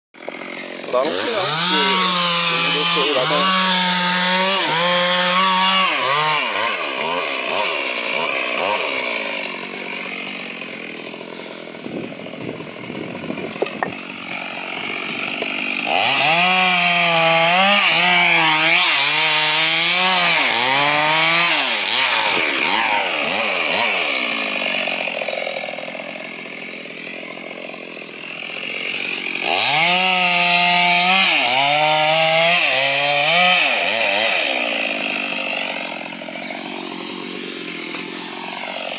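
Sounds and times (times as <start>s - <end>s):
chainsaw engine revving: 0.2s - 38.9s.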